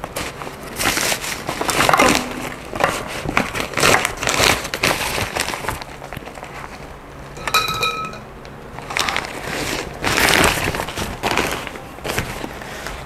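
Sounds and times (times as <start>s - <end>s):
fabric bag rustling: 0.1s - 6.9s, 8.8s - 13.0s.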